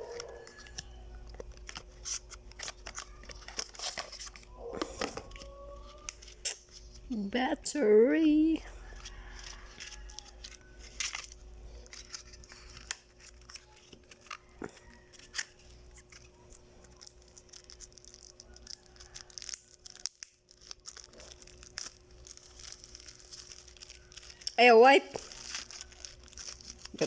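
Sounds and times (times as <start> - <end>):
packaging clicks: 0.0 - 7.1, 8.9 - 24.6, 25.2 - 27.0
packaging tearing and rustling: 0.0 - 7.2, 8.6 - 27.0.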